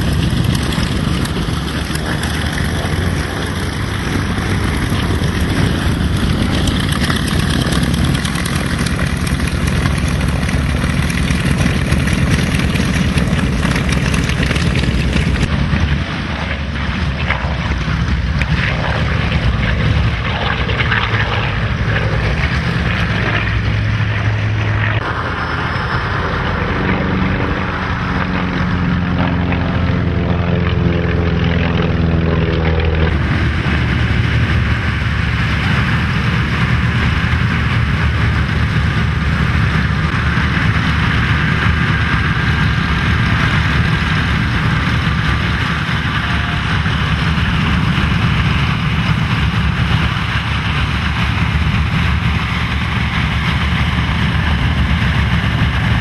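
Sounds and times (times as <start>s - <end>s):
propeller aircraft engines running: 0.0s - 56.0s.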